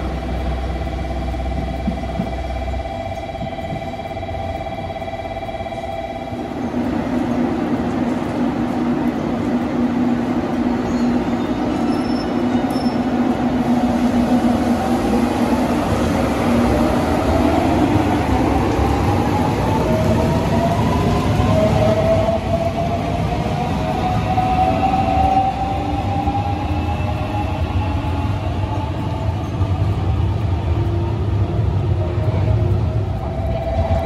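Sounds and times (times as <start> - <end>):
electric train hum: 0.0 - 34.0.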